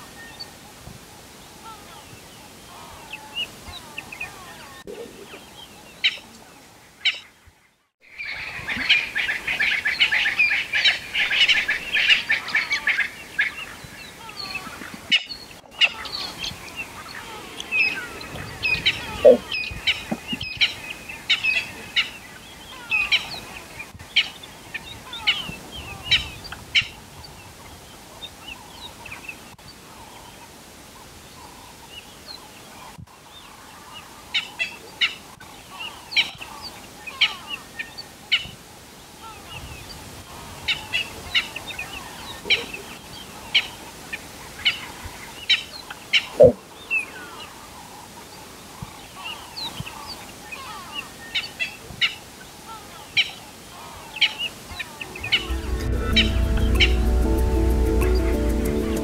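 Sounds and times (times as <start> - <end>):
wild birds chirping and calling: 0.0 - 59.0.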